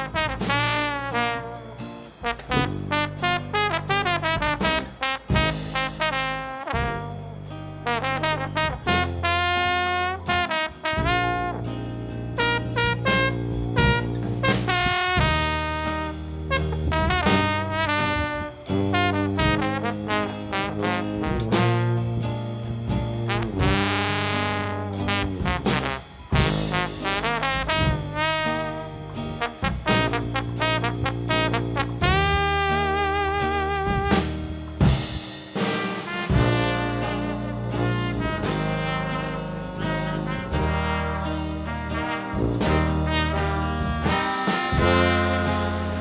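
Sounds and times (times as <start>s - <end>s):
upbeat swing music with horns: 0.0s - 46.0s.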